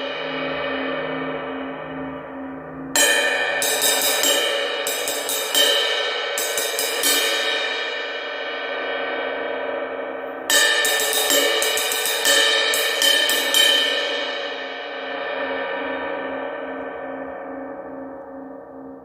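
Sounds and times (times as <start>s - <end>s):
crash cymbal struck with stick: 0.0s - 18.2s.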